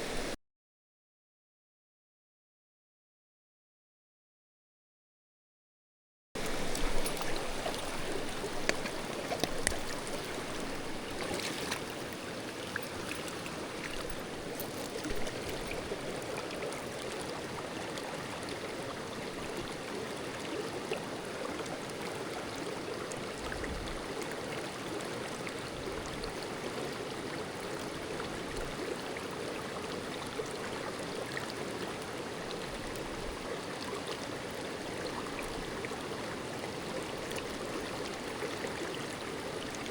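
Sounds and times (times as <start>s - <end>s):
stream water rushing: 0.0s - 0.4s, 6.4s - 39.9s.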